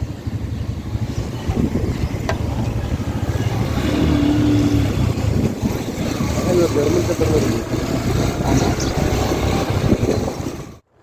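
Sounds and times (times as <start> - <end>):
motorcycle engine running: 0.0 - 11.0
wind noise: 0.9 - 10.8.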